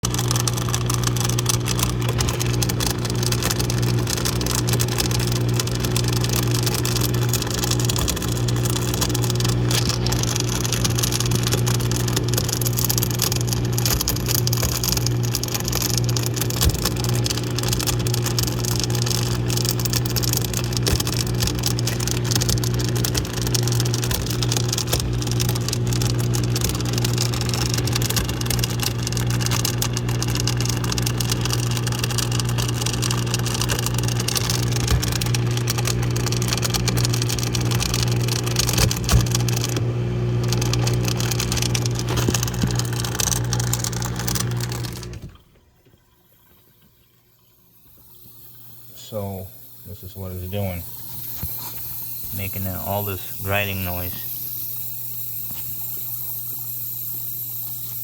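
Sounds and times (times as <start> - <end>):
dishwasher motor grinding: 0.0 - 58.0.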